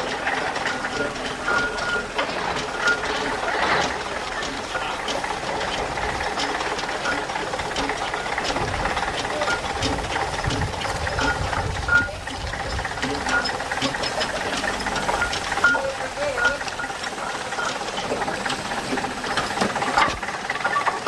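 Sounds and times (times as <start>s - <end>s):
steam engine rhythmic beat: 0.0s - 21.0s
steam hiss: 0.0s - 21.0s.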